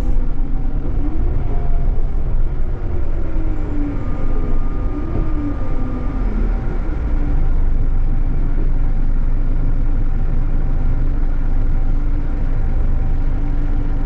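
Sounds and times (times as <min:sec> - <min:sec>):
coach engine rumble from inside: 0:00.0 - 0:14.0.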